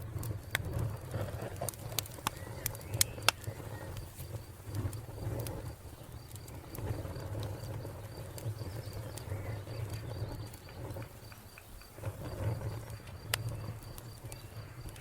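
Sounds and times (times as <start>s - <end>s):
low rumble of flames: 0.0s - 15.0s
wood fire crackling and popping: 0.0s - 15.0s
cricket chirping: 2.3s - 15.0s.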